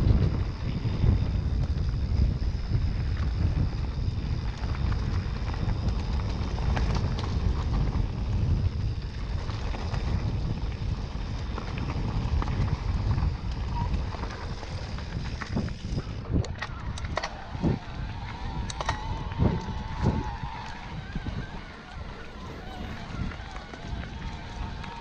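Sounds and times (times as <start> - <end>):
bike clicks and rattles: 0.0 - 25.0
bike tyres on dirt trail: 0.0 - 25.0
wind buffeting microphone: 0.0 - 25.0.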